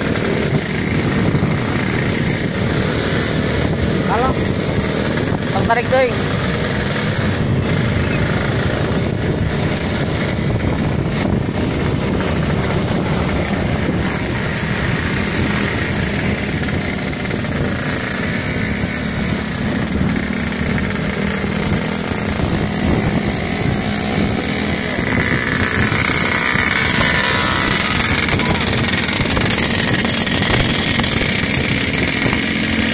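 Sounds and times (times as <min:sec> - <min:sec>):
motorcycle engines cruising: 0:00.0 - 0:32.9
road noise: 0:00.0 - 0:32.9.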